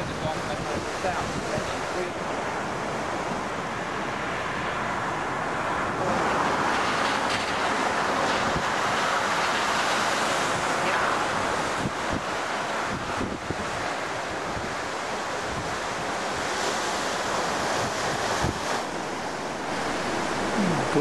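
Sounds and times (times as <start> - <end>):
sea surf surging through rocks: 0.0 - 21.0
wind buffeting microphone: 0.0 - 21.0.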